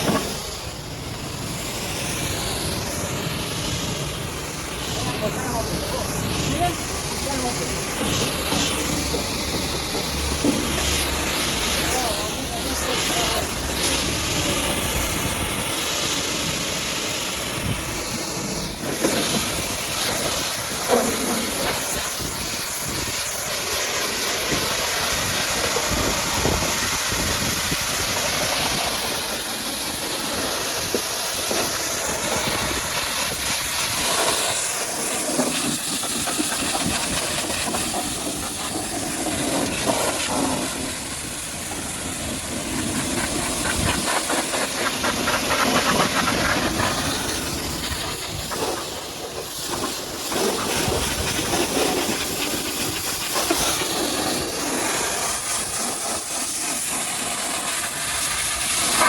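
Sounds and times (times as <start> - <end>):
pressure washer water spray: 0.0 - 59.0.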